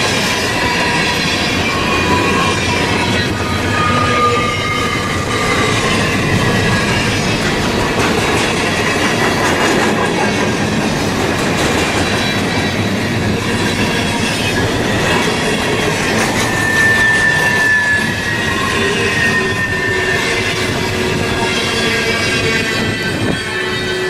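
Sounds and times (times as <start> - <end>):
wheel squeals: 0.0 - 10.4, 12.0 - 24.0
freight train wheels rumbling: 0.0 - 24.0.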